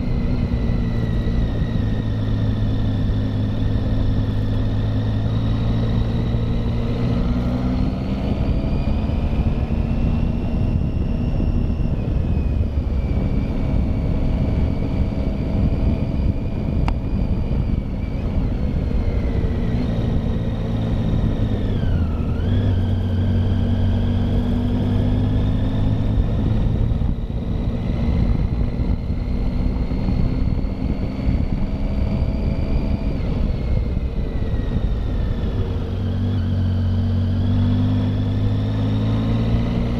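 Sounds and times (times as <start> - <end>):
motorcycle engine climbing: 0.0 - 39.9.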